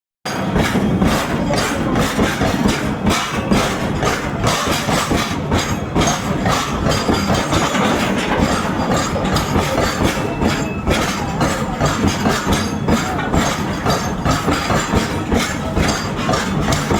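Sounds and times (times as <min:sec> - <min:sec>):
train wheels clattering on track: 0:00.3 - 0:16.9.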